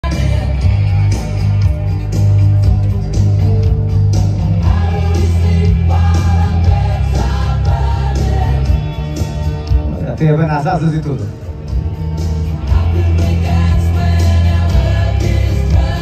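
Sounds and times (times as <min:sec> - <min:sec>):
music with singing voice: 0:00.0 - 0:16.0
steady drum beat: 0:00.0 - 0:16.0
strong bass: 0:00.0 - 0:16.0.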